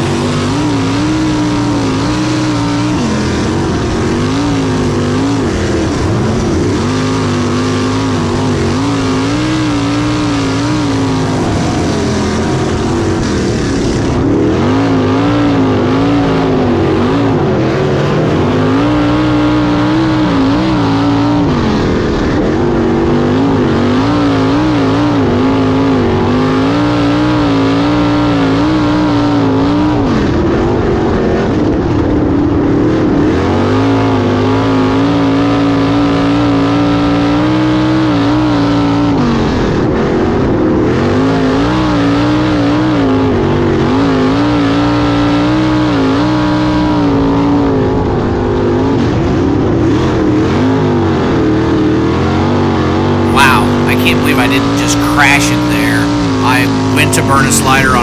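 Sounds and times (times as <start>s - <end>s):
racing car engine: 0.0s - 58.0s.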